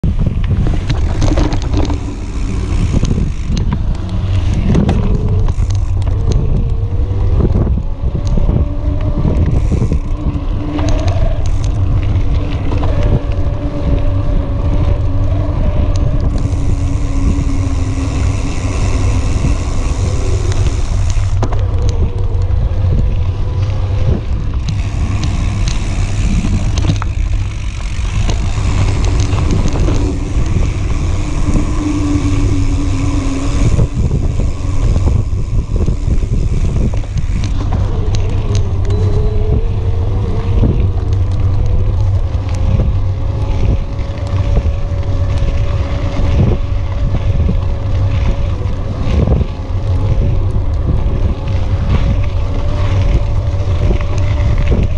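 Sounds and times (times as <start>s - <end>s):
wind rumble on microphone: 0.0s - 54.9s
electric motor whine: 0.4s - 54.9s.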